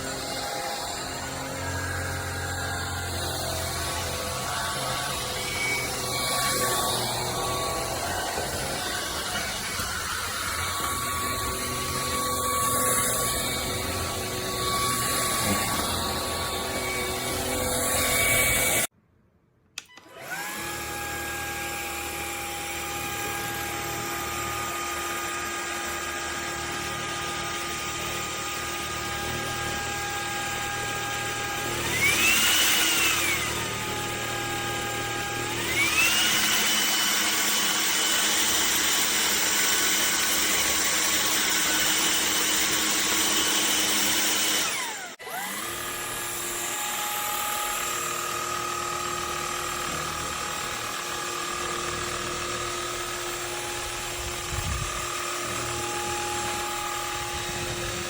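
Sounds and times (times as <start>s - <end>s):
vacuum cleaner motor whine: 0.0s - 18.9s, 19.8s - 58.0s.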